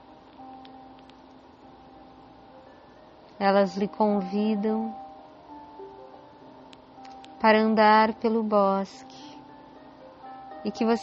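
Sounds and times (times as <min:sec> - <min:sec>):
low hiss: 0:00.0 - 0:11.0
soft background music: 0:00.0 - 0:11.0.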